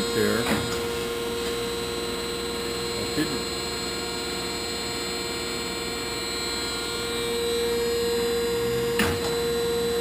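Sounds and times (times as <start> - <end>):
grinder machine hum: 0.0 - 10.0
hydraulic pump whine: 0.0 - 10.0.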